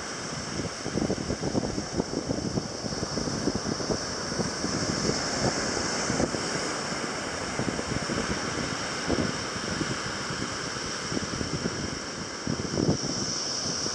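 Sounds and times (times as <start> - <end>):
surf breaking on a beach: 0.0 - 13.9
wind buffeting microphone: 0.0 - 13.9.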